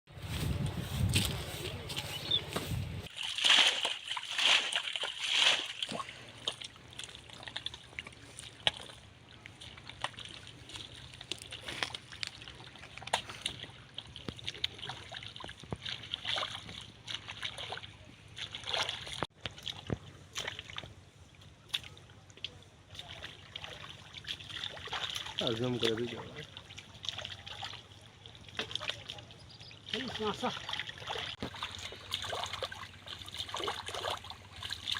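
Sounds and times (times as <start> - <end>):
river water sloshing and splashing: 2.6 - 34.9.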